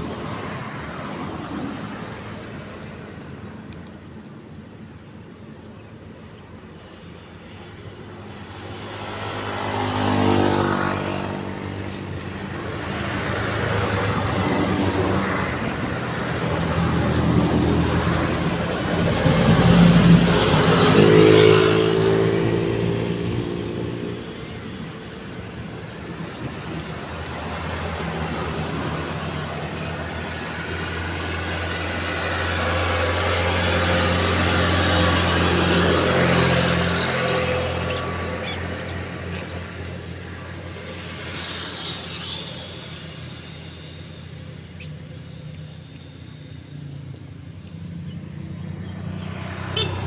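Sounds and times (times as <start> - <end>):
vehicles driving past: 0.0 - 50.0.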